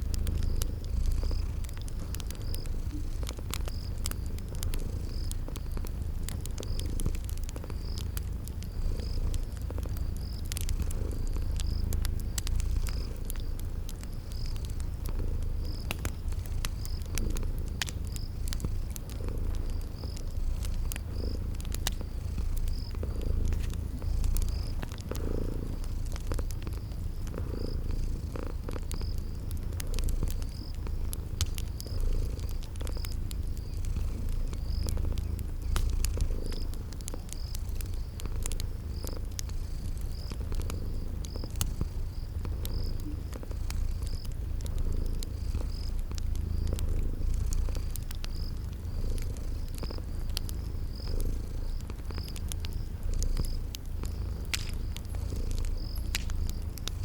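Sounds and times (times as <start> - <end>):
cat purring: 0.0 - 57.0
cricket chirping: 0.0 - 57.0
wood fire crackling: 0.0 - 57.0.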